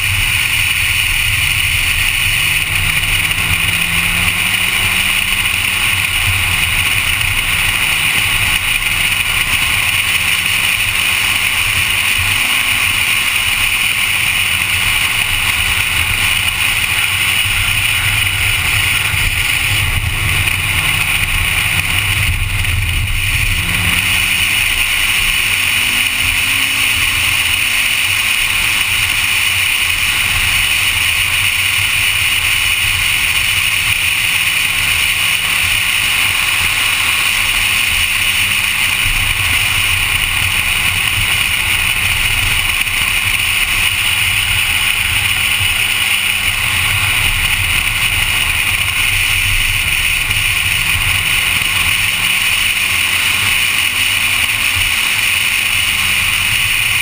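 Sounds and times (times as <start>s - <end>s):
car engine running hard: 0.0s - 57.0s
wind and road noise: 0.0s - 57.0s.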